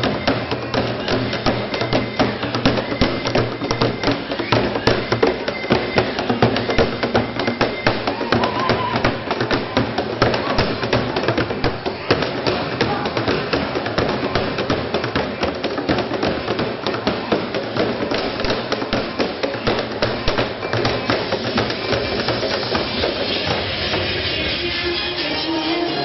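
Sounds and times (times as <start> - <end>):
loud dance music: 0.0 - 26.0.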